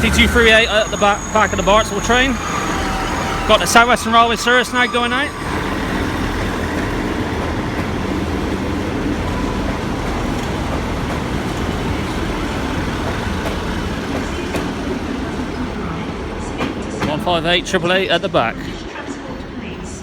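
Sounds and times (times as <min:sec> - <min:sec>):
diesel train engines running: 0:00.0 - 0:20.0.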